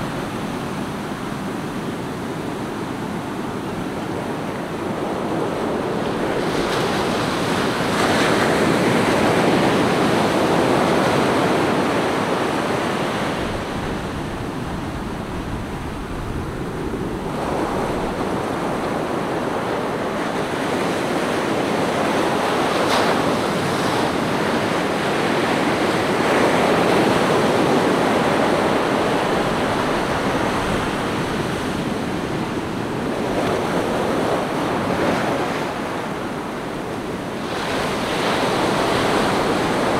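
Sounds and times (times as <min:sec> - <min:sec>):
waves breaking on sandy beach: 0:00.0 - 0:39.9.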